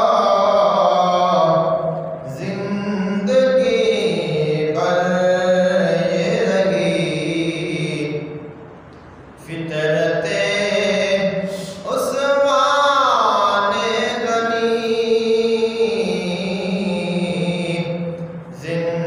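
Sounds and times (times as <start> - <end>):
man singing unaccompanied: 0.0 - 8.4, 9.4 - 19.0.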